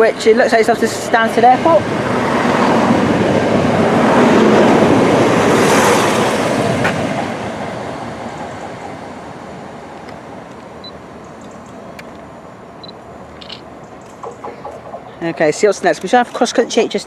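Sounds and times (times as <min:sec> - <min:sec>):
diesel train passing: 0:00.0 - 0:17.0.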